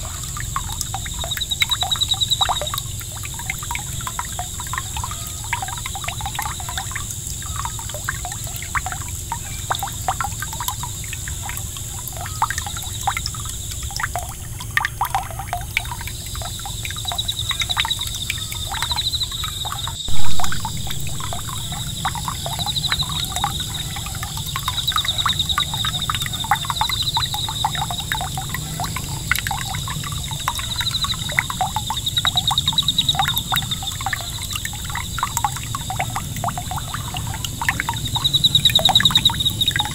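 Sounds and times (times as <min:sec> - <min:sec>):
fountain water splashing on pond: 0:00.0 - 0:39.9.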